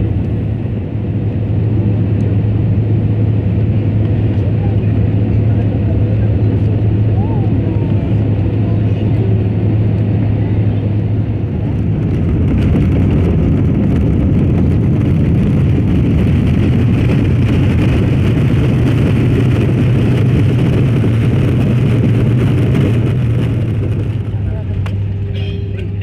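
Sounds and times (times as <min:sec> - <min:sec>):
jet cabin engine and airflow rush: 0:00.0 - 0:26.0
low hum: 0:00.0 - 0:26.0.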